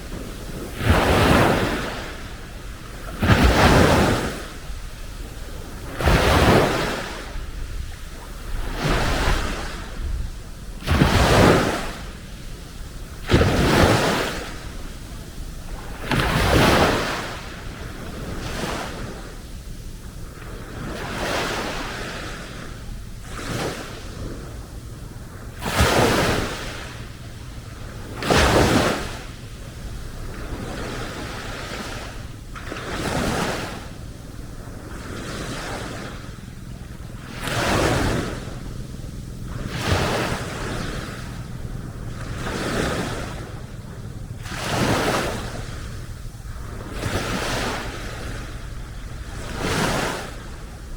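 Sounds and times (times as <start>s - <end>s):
small waves breaking on beach: 0.0s - 50.9s
steady hiss of surf: 0.0s - 50.9s.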